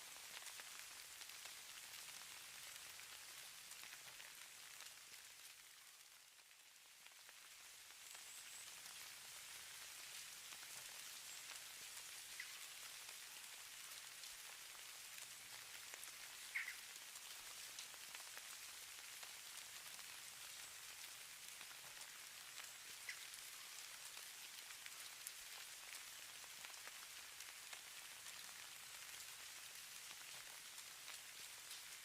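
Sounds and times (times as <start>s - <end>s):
snow or sleet pattering: 0.0s - 32.0s.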